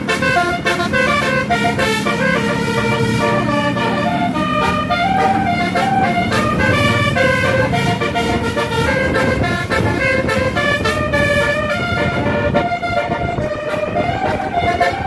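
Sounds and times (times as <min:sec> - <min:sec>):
bus engines rumbling: 0:00.0 - 0:15.0
multi-tone air horn tune: 0:00.0 - 0:15.0.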